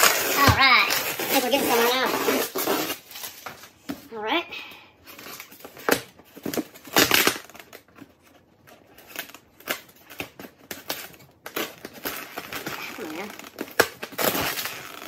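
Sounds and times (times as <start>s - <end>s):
tape scratching and crinkling: 0.0s - 4.2s, 5.0s - 15.0s.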